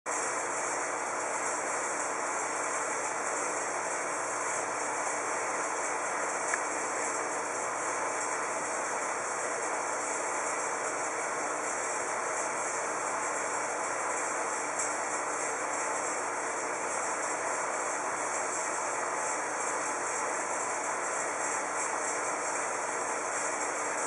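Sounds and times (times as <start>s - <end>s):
aquarium equipment hiss: 0.2s - 24.0s.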